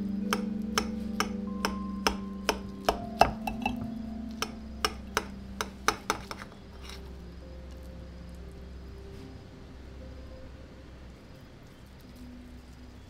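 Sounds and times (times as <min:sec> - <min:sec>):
soft music: 0:00.0 - 0:13.0.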